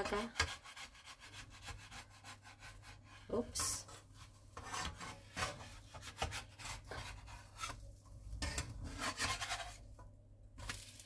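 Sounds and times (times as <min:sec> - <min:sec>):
plastic spatula scraping wok: 0:00.0 - 0:10.0.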